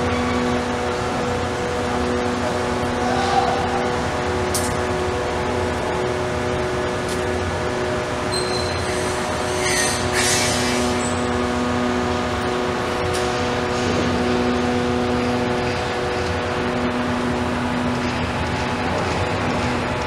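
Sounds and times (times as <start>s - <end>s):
construction machinery hum: 0.0s - 20.0s.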